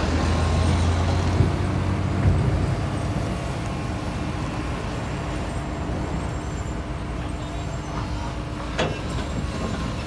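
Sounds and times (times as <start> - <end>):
excavator diesel engine: 0.0 - 10.0.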